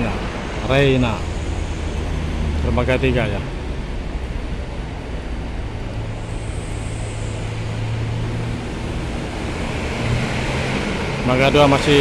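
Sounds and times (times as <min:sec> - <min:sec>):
ferry engines humming: 0:00.0 - 0:12.0
rushing background noise: 0:00.0 - 0:12.0.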